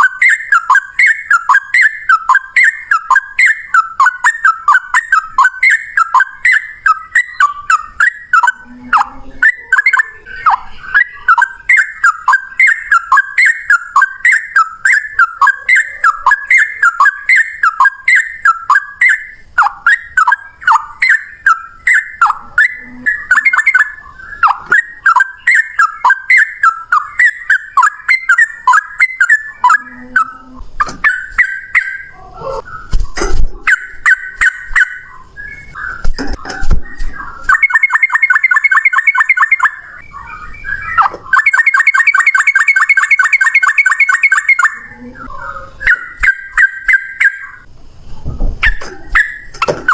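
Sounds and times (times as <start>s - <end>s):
bird singing sliding notes: 0.0s - 49.9s.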